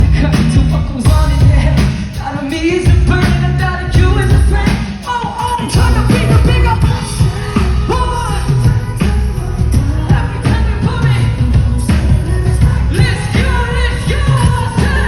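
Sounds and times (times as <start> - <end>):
man singing: 0.0 - 15.0
rock band playing: 0.0 - 15.0.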